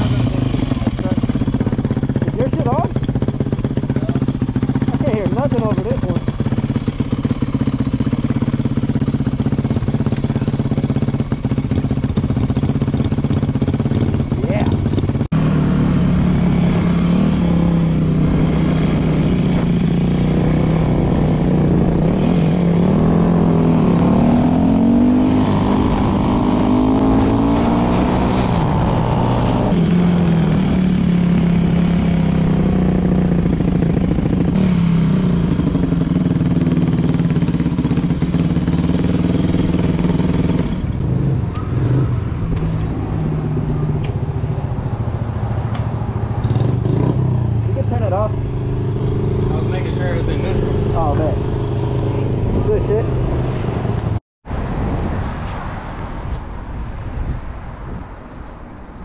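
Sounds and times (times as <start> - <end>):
dirt bike engine revving: 0.0 - 54.2.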